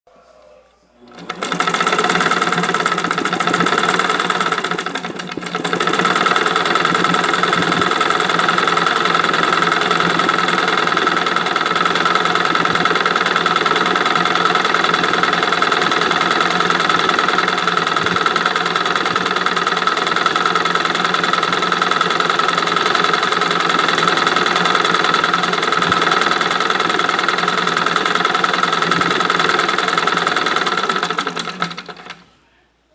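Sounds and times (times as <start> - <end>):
sewing machine stitching: 1.0 - 32.3.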